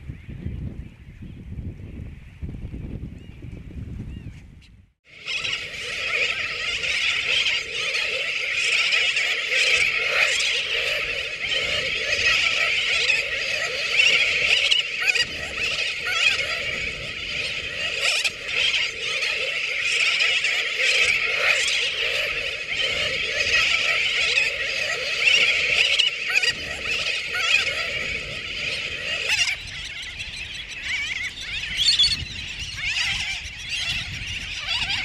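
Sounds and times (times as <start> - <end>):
terns calling in a colony: 5.1 - 35.0.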